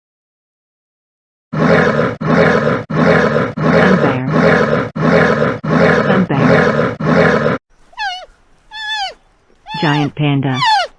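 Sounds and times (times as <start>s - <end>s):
bear harsh throaty calls: 1.6s - 10.9s.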